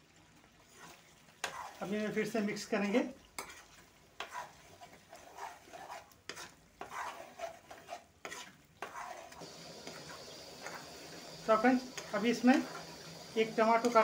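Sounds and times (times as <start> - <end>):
food frying and sizzling: 0.0 - 14.0
metal spatula scraping a pan: 0.7 - 14.0.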